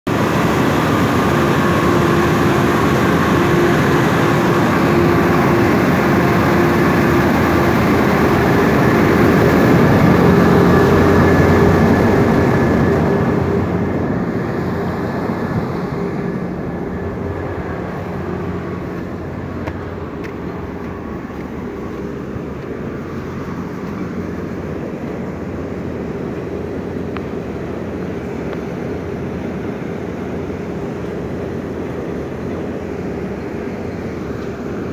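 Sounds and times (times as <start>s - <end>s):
factory machinery drone: 0.1s - 34.9s
machinery whines: 0.1s - 34.9s.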